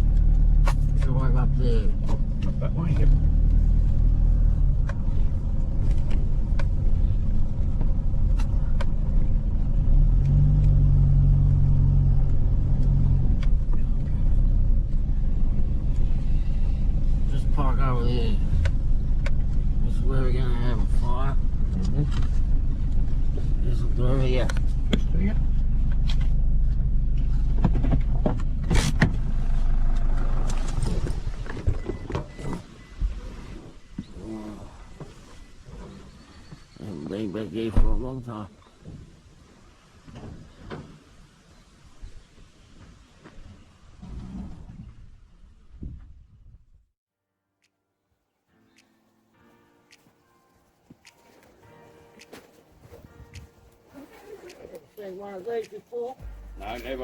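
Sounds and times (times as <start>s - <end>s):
car engine and road rumble: 0.0s - 47.0s, 49.9s - 57.0s.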